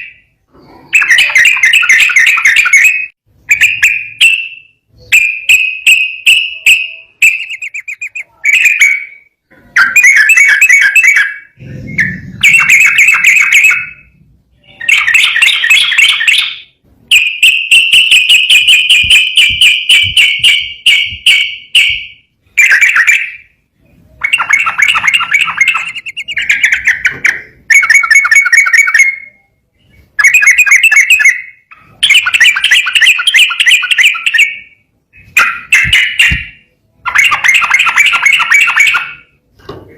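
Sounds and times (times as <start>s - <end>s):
bird singing bubbly notes: 0.0s - 39.4s.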